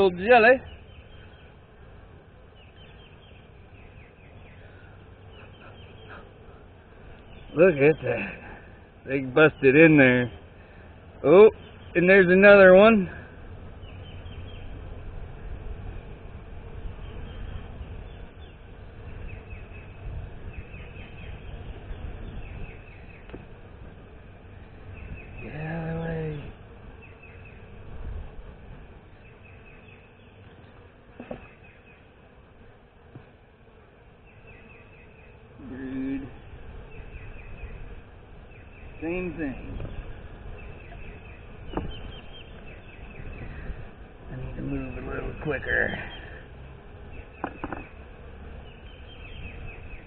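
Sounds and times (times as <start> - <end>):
honeybees humming: 0.0 - 50.0
small birds chirping: 0.0 - 50.0.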